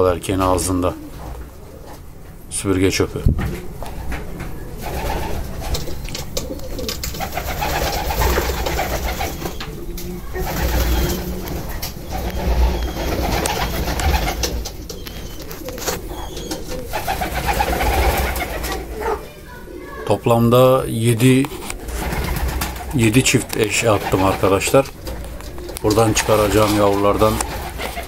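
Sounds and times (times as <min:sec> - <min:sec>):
pigeons cooing: 0:03.4 - 0:28.0.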